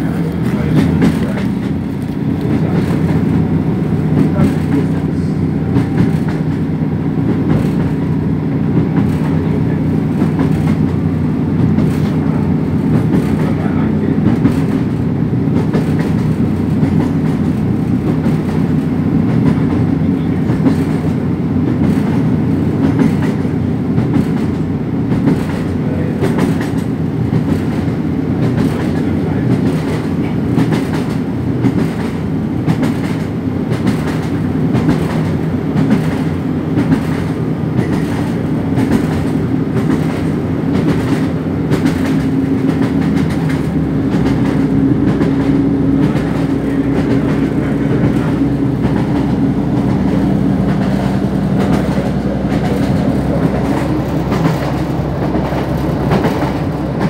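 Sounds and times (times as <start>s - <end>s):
train cabin rumbling drone: 0.0s - 57.0s
wheels clacking over rail joints: 0.0s - 57.0s.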